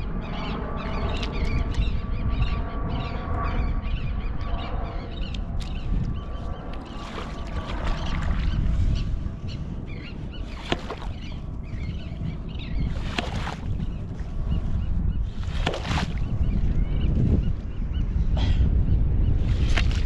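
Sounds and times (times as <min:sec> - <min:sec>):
wind and surf rumble: 0:00.0 - 0:20.0.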